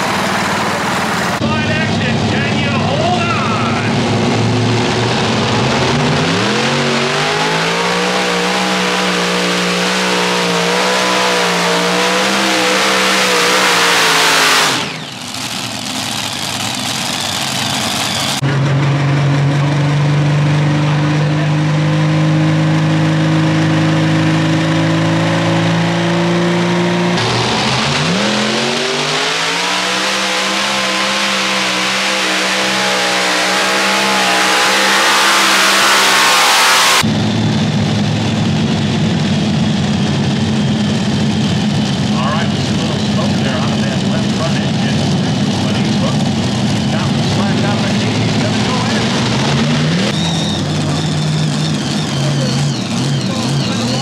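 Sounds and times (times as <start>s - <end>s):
pulling tractor engines at full throttle: 0.0s - 54.0s.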